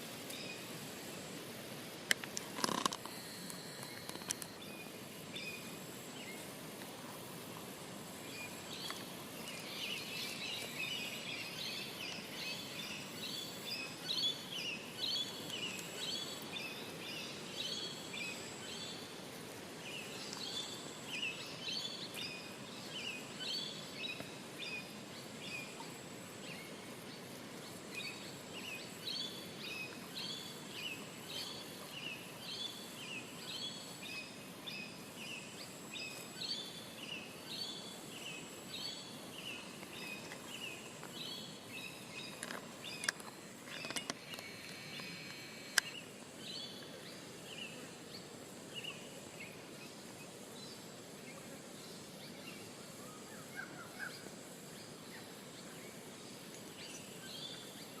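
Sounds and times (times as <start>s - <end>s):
faint insect whine: 0.0s - 58.0s.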